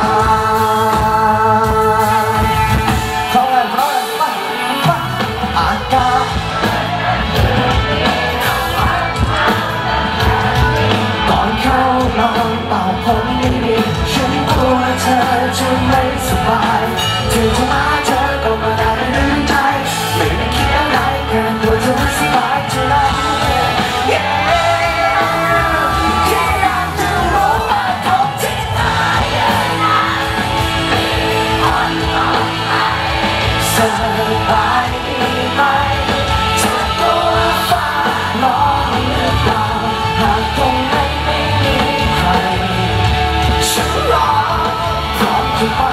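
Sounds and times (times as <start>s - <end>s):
live pop-rock band: 0.0s - 45.9s
man singing into a microphone: 0.0s - 45.9s.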